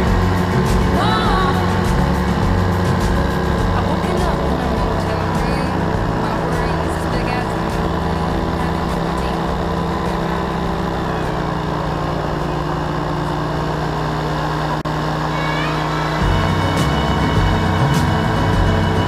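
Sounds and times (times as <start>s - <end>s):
paramotor engine droning: 0.0s - 19.0s.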